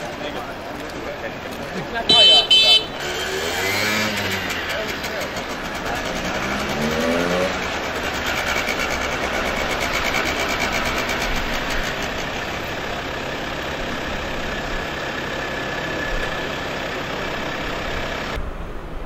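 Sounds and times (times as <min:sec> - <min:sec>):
moped engine whining: 0:00.0 - 0:18.4.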